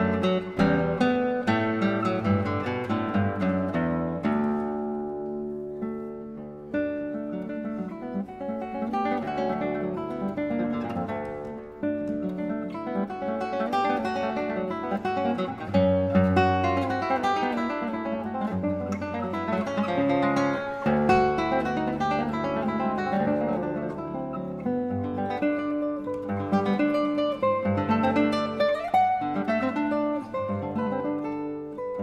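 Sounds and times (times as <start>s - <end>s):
fingerstyle classical guitar: 0.0s - 32.0s.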